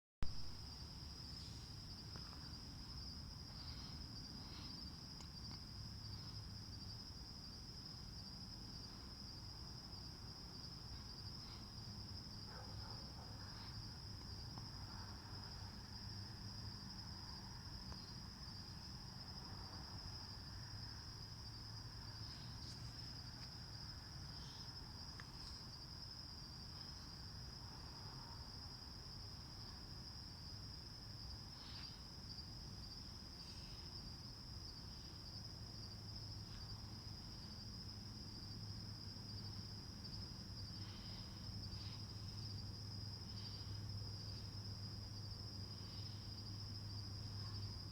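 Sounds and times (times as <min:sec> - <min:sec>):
crickets chirping: 0:00.2 - 0:47.9.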